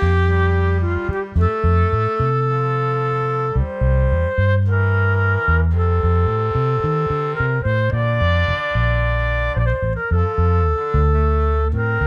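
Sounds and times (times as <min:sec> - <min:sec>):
low bass line: 0:00.0 - 0:12.0
sustained melody notes: 0:00.0 - 0:12.0.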